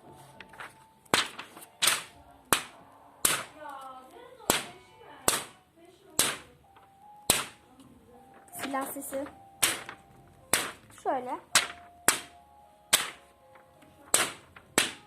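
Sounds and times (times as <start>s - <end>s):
pen striking paper with sharp snaps: 1.0s - 7.9s, 8.6s - 13.3s, 14.0s - 15.0s.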